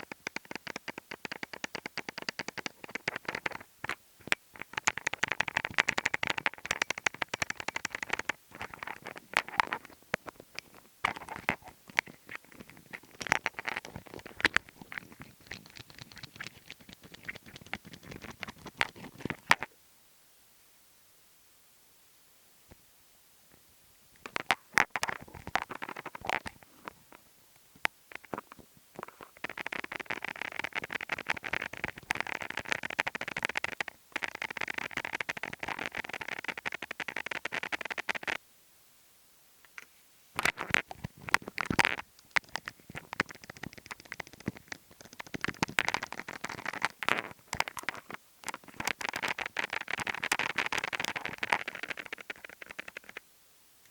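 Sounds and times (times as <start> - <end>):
fingertips tapping and scratching: 0.0 - 19.7, 24.2 - 27.2, 28.1 - 38.4, 40.4 - 53.2.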